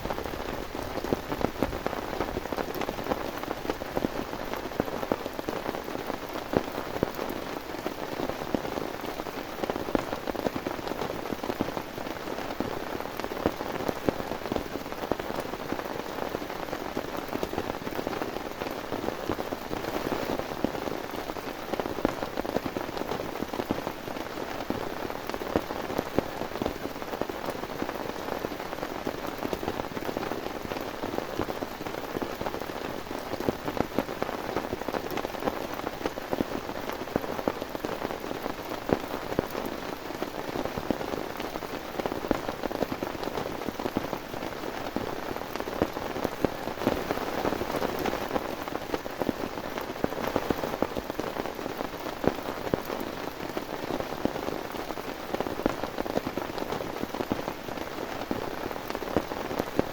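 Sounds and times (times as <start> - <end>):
heavy rain on a surface: 0.0 - 59.9.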